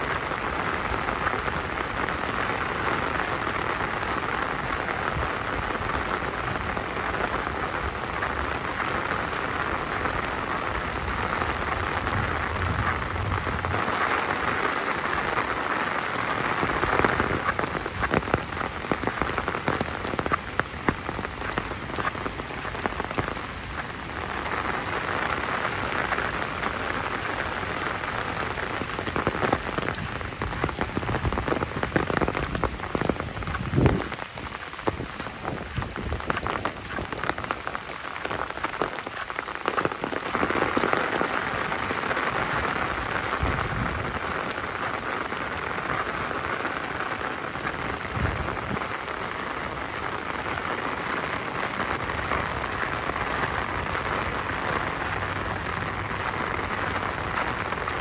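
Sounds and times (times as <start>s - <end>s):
close raindrop impacts pattering: 0.0s - 58.0s
steady rain falling: 0.0s - 58.0s.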